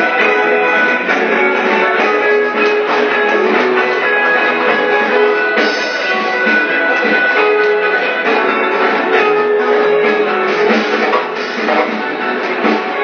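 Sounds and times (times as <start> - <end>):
drum kit: 0.0 - 13.0
electric guitar lead: 0.0 - 13.0
live jazz band: 0.0 - 13.0.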